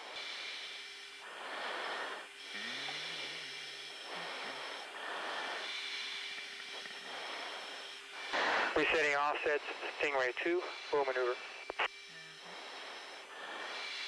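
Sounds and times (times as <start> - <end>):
radio channel hiss: 0.0 - 14.0.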